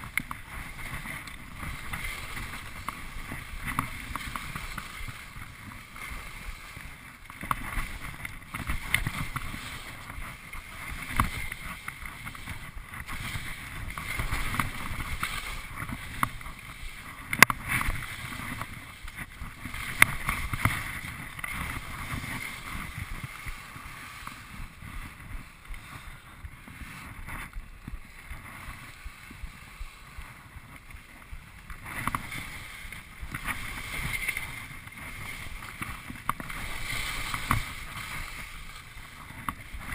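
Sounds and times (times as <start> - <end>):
muffled wind rush: 0.0 - 39.9
skis scraping over snow: 0.0 - 39.9.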